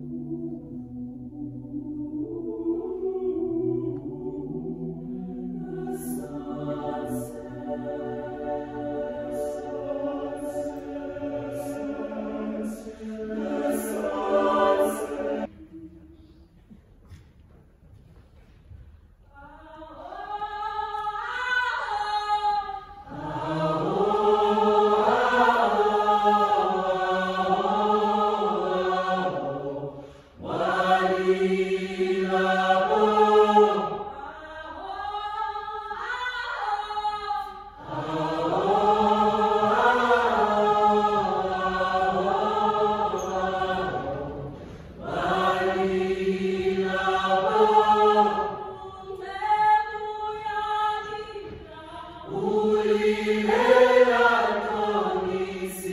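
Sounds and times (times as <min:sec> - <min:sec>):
choir singing: 0:00.0 - 0:16.4, 0:19.4 - 0:55.9.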